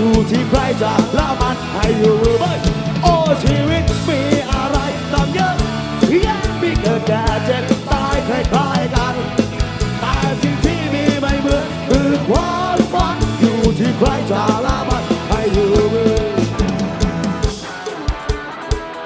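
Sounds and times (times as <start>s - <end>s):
person singing: 0.0s - 16.8s
rock band with drum beat: 0.0s - 19.0s.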